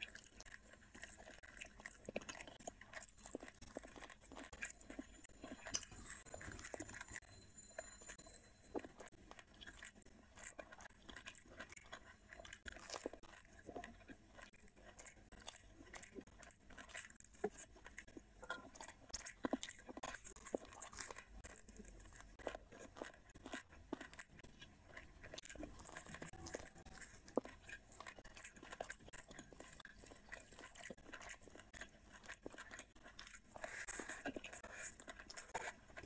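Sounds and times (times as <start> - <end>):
person chewing food: 0.0 - 36.0.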